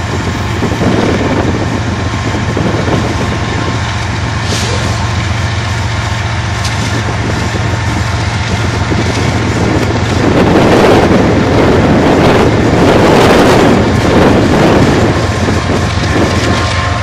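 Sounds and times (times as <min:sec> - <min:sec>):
diesel locomotive engine droning: 0:00.0 - 0:17.0
wheels rumbling on rail: 0:00.0 - 0:17.0
wind buffeting microphone: 0:00.0 - 0:17.0.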